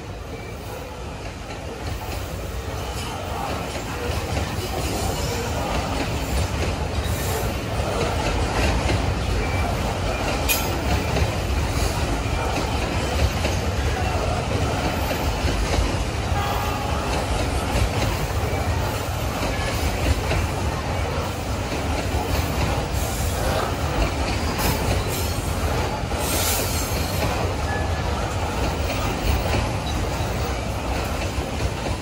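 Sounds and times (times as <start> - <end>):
train wheel squeal: 0.0 - 21.4, 22.4 - 31.2
freight train rumbling past: 0.0 - 32.0.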